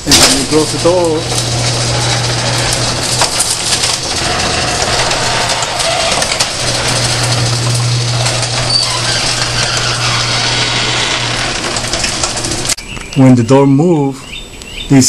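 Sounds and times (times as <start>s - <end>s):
garage door rattling shut: 0.0s - 12.8s.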